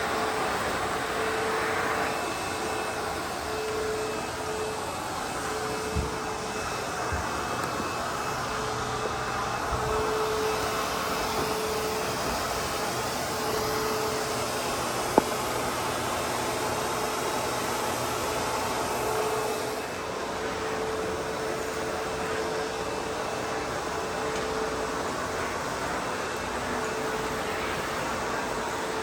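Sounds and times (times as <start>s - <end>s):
backpack vacuum running: 0.0s - 29.0s
vacuum whine: 0.0s - 29.0s.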